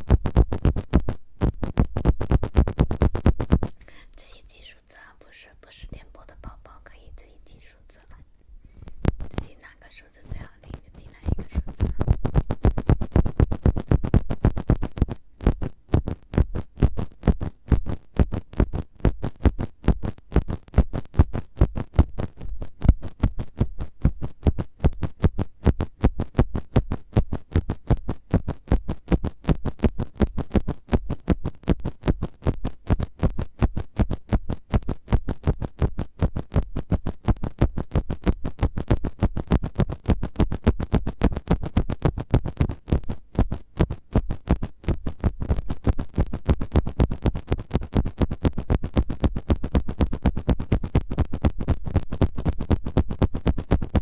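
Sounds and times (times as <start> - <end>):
brushing strokes on a microphone: 0.0 - 54.0.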